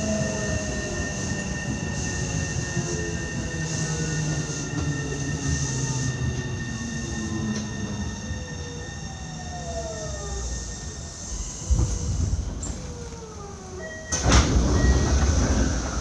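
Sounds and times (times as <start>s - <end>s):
sliding doors opening rush: 0.0s - 16.0s
train inverter whine: 0.0s - 16.0s.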